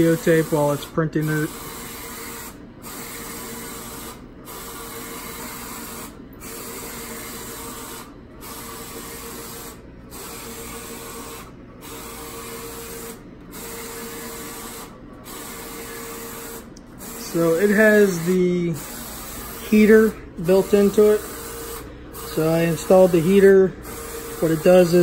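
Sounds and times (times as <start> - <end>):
printer carriage whirring: 0.0 - 25.0.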